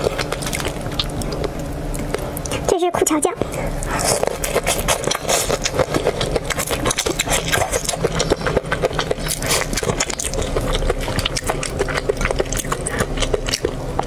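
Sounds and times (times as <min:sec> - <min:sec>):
wet chewing and sucking: 0:00.0 - 0:02.7, 0:03.4 - 0:14.0
steady low hum: 0:00.0 - 0:14.0.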